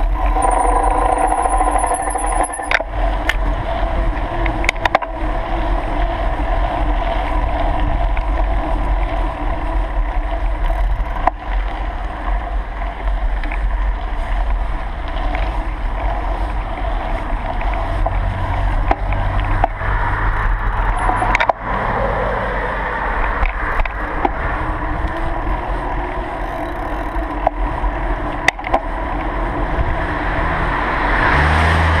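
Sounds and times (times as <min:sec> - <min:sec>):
bicycle tyres rolling: 0:00.0 - 0:31.4
wind rumble on microphone: 0:00.0 - 0:32.0.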